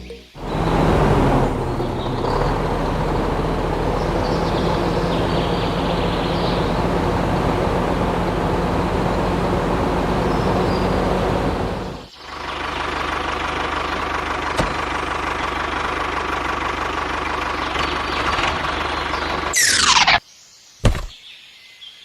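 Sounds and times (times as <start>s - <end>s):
engine running steadily: 0.4s - 20.2s.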